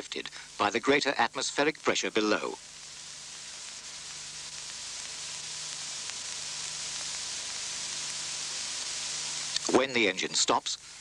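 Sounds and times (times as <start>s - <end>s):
rushing air hiss: 1.5s - 11.0s.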